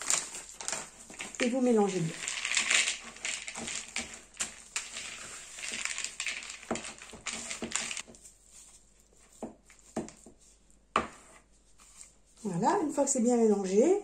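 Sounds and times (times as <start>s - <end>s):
spoon stirring thick dough: 0.0s - 13.0s.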